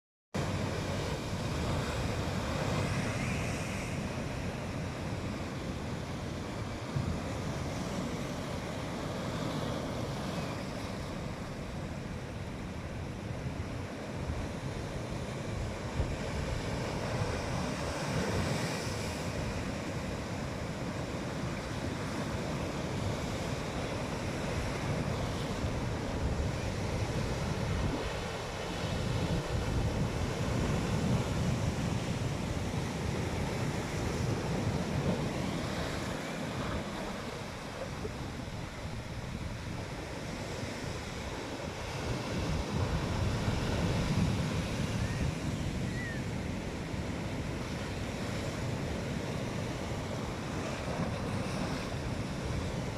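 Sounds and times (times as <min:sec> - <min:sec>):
sea surf washing ashore: 0:00.4 - 0:52.9
wind rumbling on microphone: 0:00.4 - 0:52.9.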